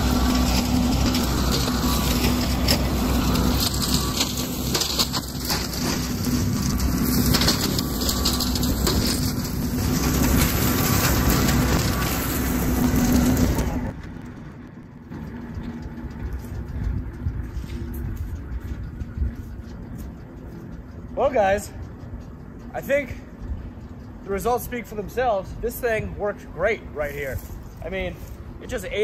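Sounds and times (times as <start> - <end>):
rotary cutter shredding brush: 0.0 - 23.2, 24.2 - 29.0
steady low hum: 0.0 - 29.0
tractor diesel engine: 0.0 - 29.0.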